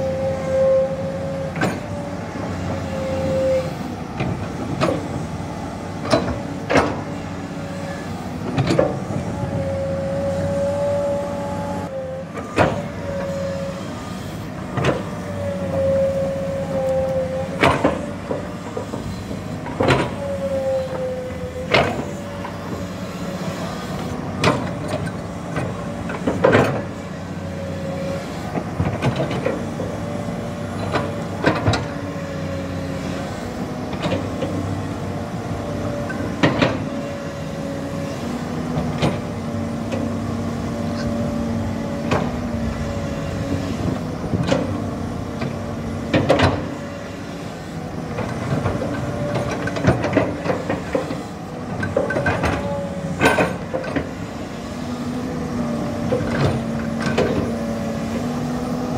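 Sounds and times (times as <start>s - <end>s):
excavator engine running: 0.0s - 58.9s.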